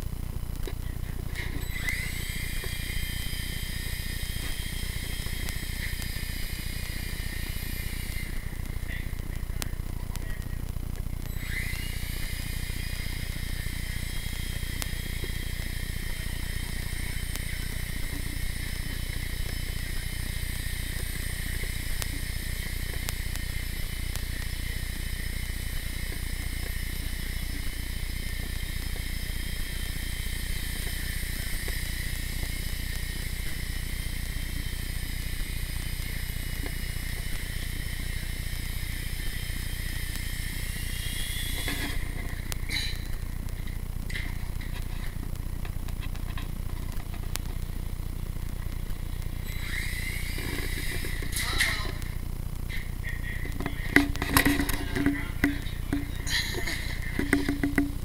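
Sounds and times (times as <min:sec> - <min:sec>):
rc helicopter rotors whining: 0:00.0 - 0:58.0.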